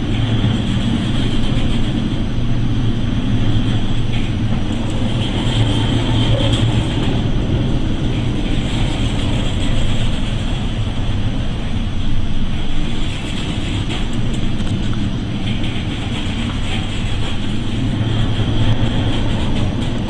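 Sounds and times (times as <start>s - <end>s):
ship engine rumbling: 0.0s - 20.0s.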